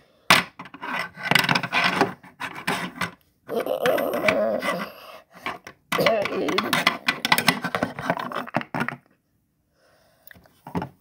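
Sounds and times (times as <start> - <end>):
plastic toys scraping and knocking: 0.3 - 9.1, 10.6 - 11.0.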